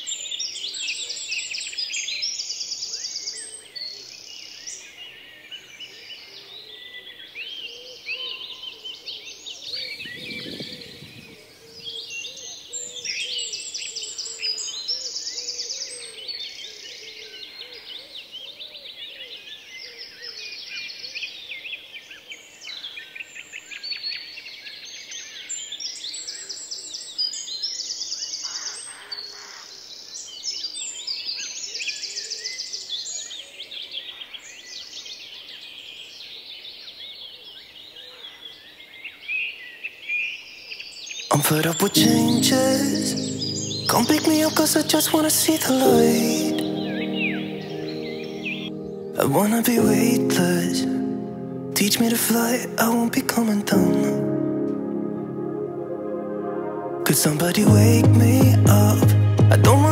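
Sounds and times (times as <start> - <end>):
birds singing and chirping: 0.0 - 21.4, 24.8 - 54.6.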